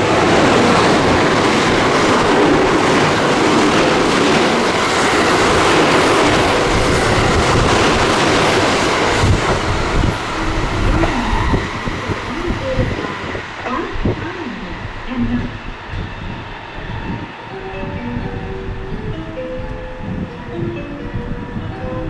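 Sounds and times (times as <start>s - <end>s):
electric train wheels on rail: 0.0s - 22.0s.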